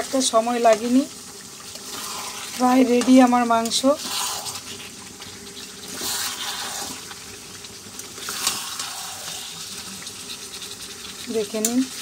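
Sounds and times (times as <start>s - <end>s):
curry sizzling and bubbling: 0.0s - 12.0s.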